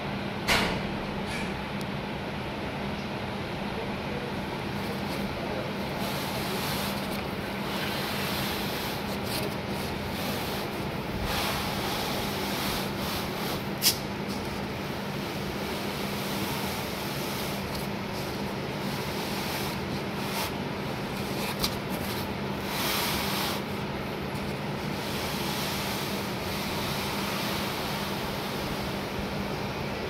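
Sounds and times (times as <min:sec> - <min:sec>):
steady hum and hiss: 0:00.0 - 0:30.0.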